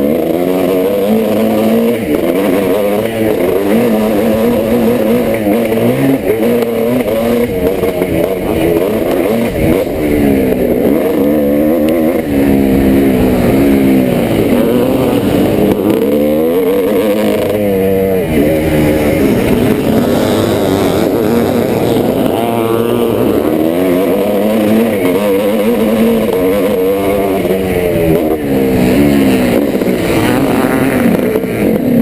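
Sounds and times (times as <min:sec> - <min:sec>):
motocross engine revving: 0:00.0 - 0:32.0.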